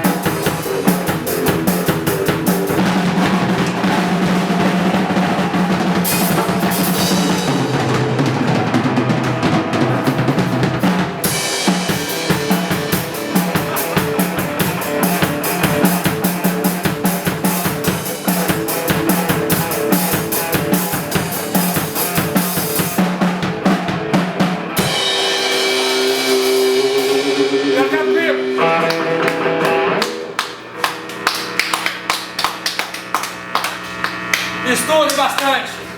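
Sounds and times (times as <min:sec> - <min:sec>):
drum kit playing fast rhythm: 0:00.0 - 0:33.6, 0:34.2 - 0:35.7.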